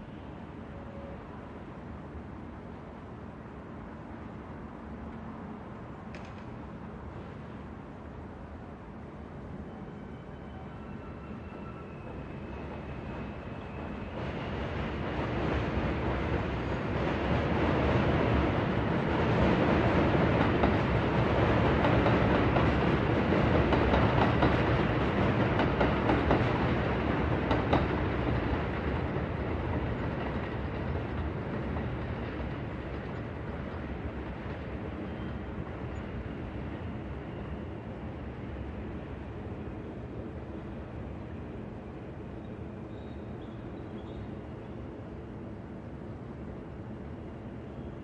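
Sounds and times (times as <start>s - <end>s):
subway train rumbling: 0.0s - 48.0s.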